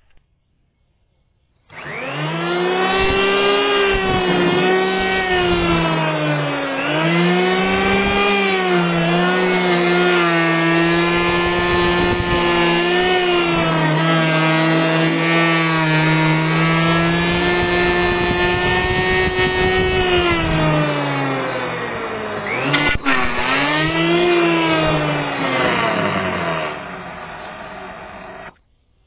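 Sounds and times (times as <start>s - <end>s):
electric hand planer cutting wood: 1.7s - 28.6s.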